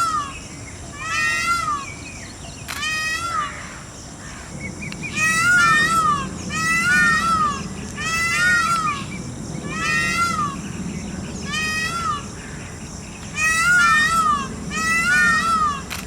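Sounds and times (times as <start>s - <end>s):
peacock calling: 0.0s - 4.5s, 5.1s - 16.0s.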